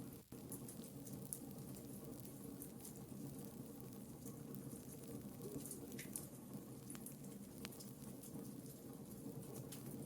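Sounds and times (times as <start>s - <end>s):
burning logs crackling: 0.0s - 10.0s
fire flames rushing: 0.0s - 10.0s.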